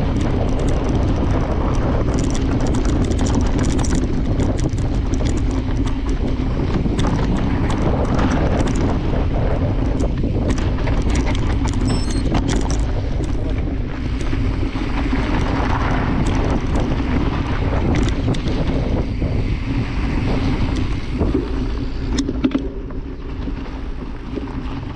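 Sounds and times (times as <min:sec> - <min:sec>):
bike rattling on rough trail: 0:00.0 - 0:24.9
wind rushing over microphone: 0:00.0 - 0:24.9.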